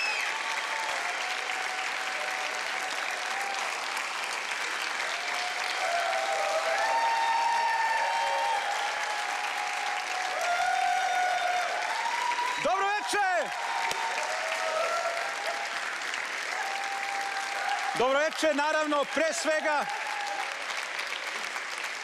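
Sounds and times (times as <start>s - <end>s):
cheering voices: 0.0s - 21.4s
audience applauding: 0.0s - 22.0s.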